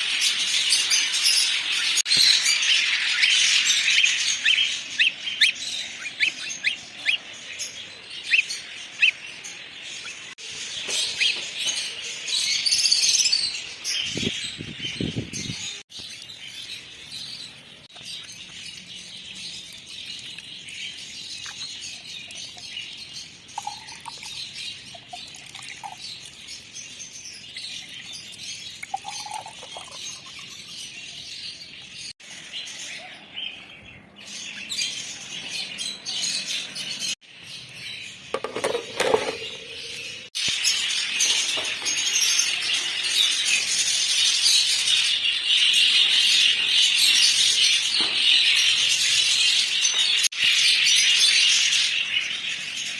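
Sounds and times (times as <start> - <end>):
birds chirping and calling: 0.0 - 52.9.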